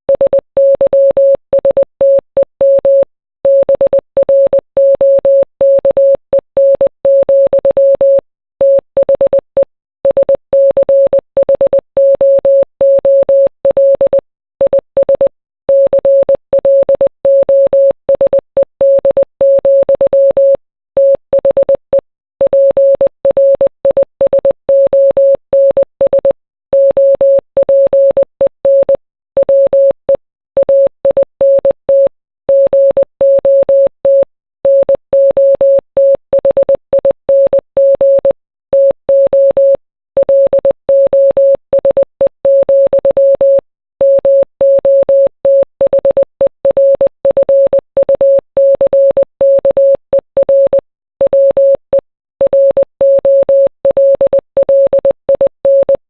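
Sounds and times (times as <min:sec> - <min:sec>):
morse code beeps: 0:00.1 - 0:56.0.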